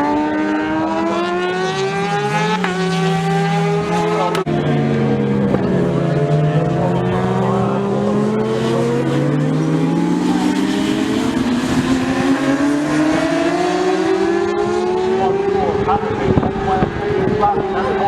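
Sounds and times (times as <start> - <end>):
racing motorcycle engines at high revs: 0.0 - 18.0.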